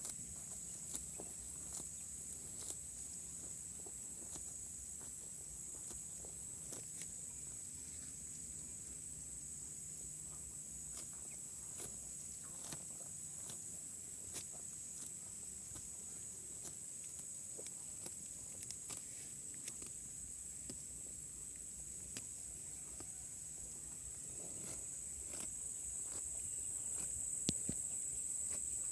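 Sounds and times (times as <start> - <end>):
cows tearing and chewing grass: 0.0 - 28.9
insects chirping: 0.0 - 28.9.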